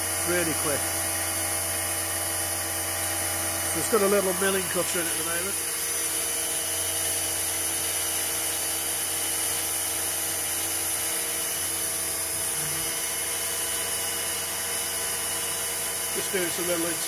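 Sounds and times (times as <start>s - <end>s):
milling machine whine: 0.0s - 17.0s.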